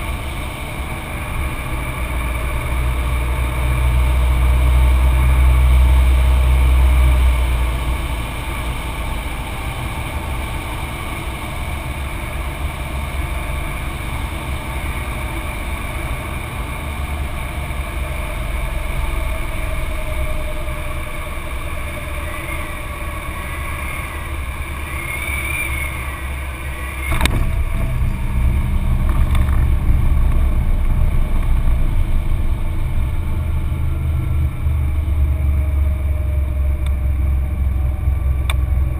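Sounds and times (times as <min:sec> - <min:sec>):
low rumble of plane rolling: 0:00.0 - 0:38.9
propeller plane engine drone: 0:00.0 - 0:38.9.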